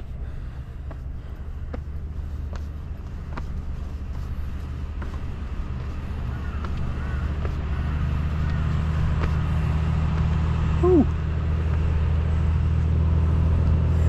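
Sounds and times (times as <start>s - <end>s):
footsteps on stone: 0.0s - 12.9s
truck engine drone: 0.0s - 14.0s.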